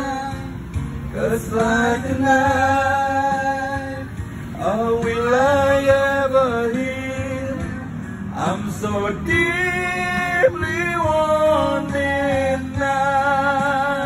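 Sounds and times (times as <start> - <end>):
backing music: 0.0 - 14.0
men singing: 0.0 - 14.0.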